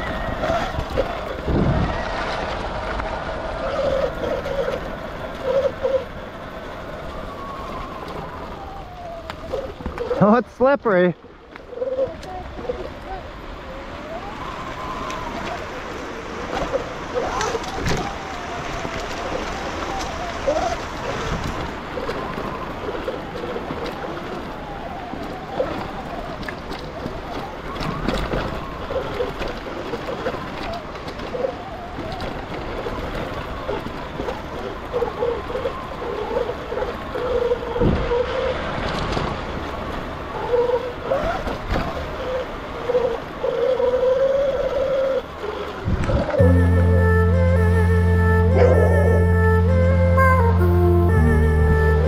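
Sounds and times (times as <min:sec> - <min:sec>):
tyre and wind noise: 0:00.0 - 0:10.6, 0:11.2 - 0:52.0.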